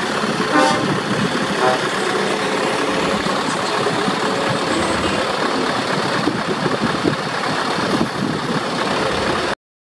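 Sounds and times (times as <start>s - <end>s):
diesel truck engine idling: 0.0s - 9.6s.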